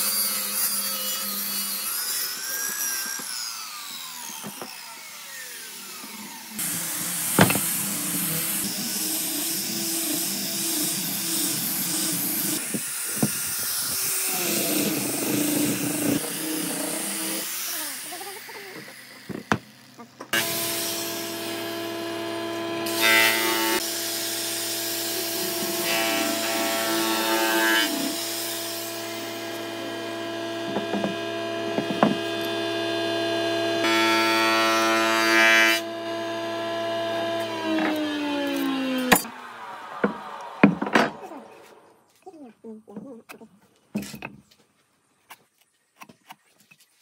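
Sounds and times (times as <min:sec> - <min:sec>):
power tool motor cutting wood: 0:00.0 - 0:42.0.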